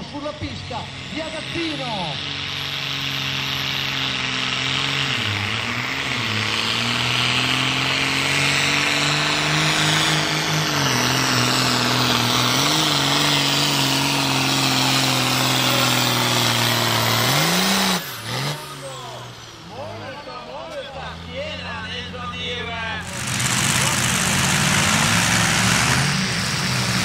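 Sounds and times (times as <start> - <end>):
tractor diesel engine at full load: 0.0 - 27.0.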